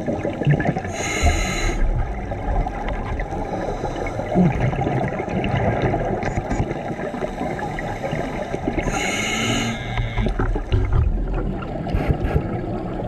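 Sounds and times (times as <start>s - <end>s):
regulator bubbles underwater: 0.0s - 13.0s.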